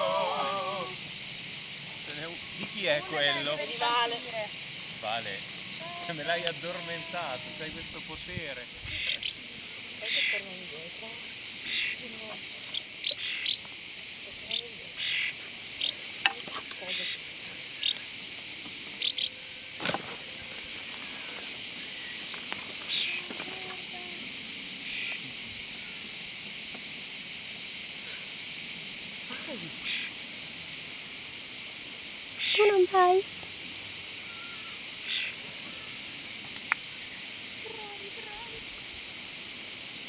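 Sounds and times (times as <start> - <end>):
insect chorus drone: 0.0 - 40.0.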